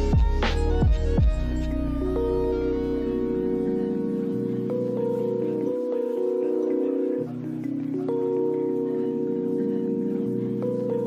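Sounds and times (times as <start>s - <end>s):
soft ambient chords: 0.0s - 11.0s.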